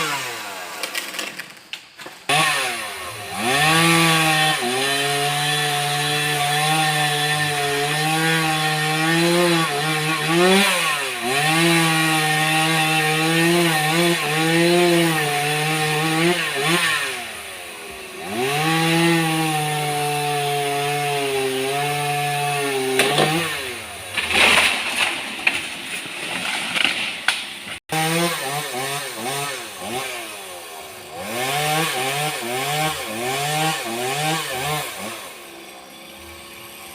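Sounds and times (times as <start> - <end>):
chainsaw cutting wood: 0.0 - 36.9.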